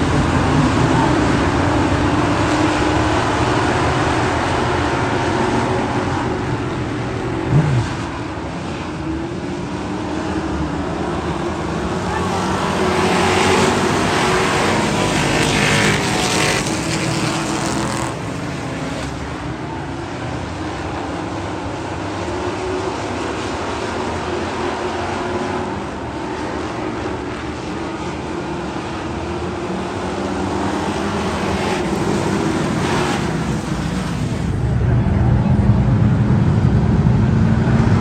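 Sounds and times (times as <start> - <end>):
race car engine running: 0.0 - 38.0.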